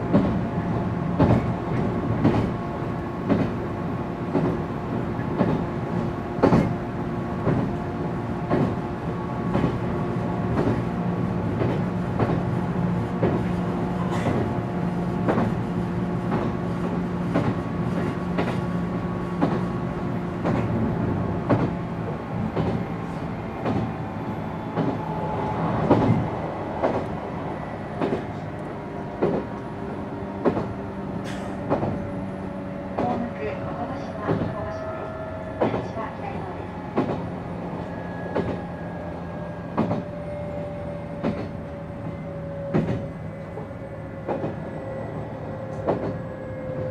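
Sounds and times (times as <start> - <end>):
train running rumble: 0.0 - 46.9.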